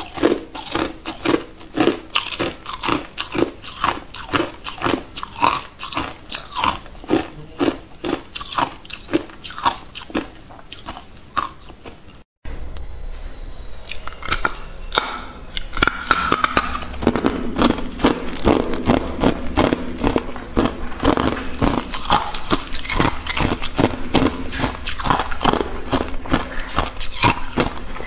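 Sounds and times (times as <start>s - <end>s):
ice being crunched and chewed: 0.0s - 12.2s, 15.6s - 28.0s.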